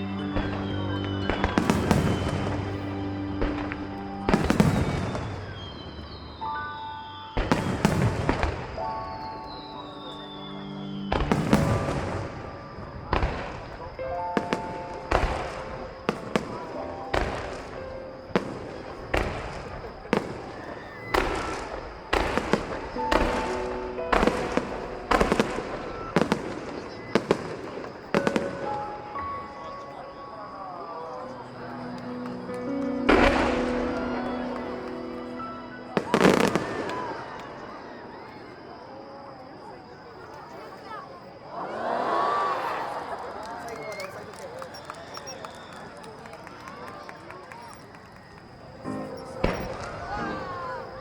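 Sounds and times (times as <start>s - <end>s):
music: 0.0s - 38.7s, 48.8s - 51.0s
fireworks bangs: 0.4s - 30.5s, 31.2s - 38.8s, 43.6s - 51.0s.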